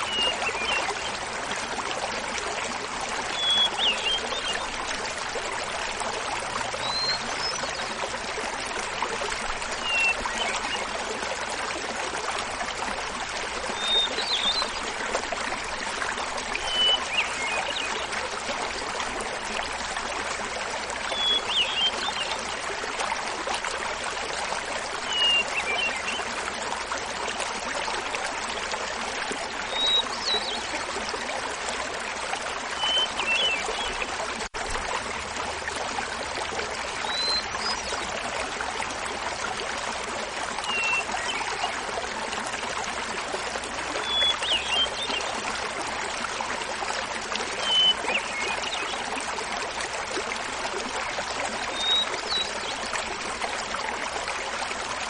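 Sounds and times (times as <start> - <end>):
small waterfall babbling: 0.0 - 55.0.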